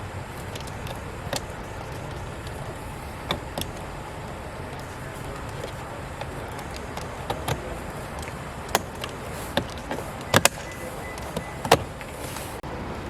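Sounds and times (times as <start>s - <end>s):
steady background hum: 0.0s - 13.0s
plastic trim clicks and knocks: 0.4s - 12.1s.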